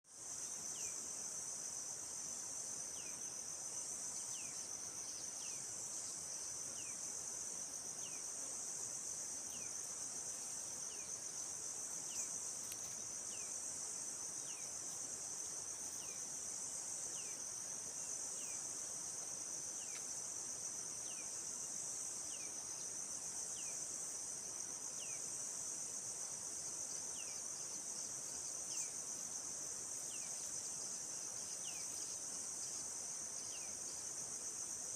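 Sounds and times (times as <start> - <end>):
insects trilling: 0.1 - 34.9.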